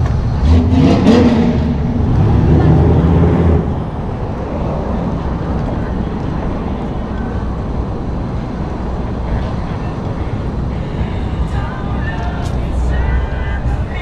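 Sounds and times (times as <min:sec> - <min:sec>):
low rumble of street noise: 0:00.0 - 0:14.0.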